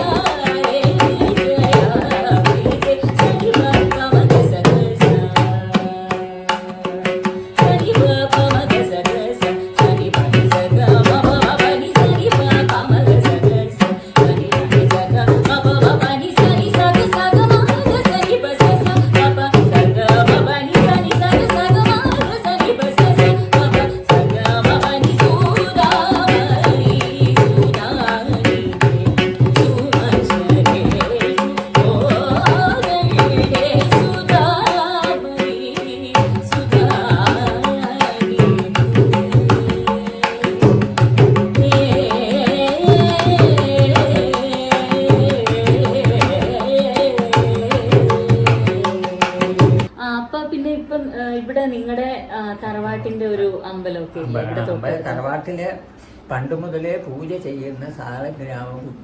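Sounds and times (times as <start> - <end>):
woman singing: 0.0 - 54.7.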